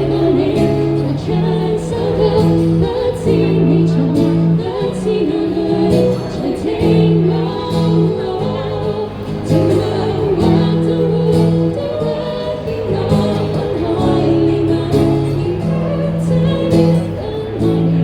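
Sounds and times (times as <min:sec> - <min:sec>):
person singing: 0:00.0 - 0:18.0.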